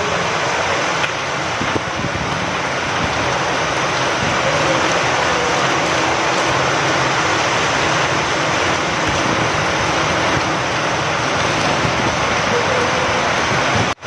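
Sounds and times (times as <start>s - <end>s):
rain falling with wind: 0.0s - 14.0s.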